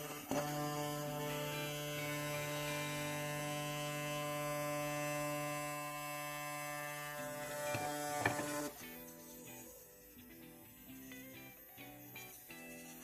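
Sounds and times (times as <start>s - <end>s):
small electric machine humming: 0.0s - 13.0s.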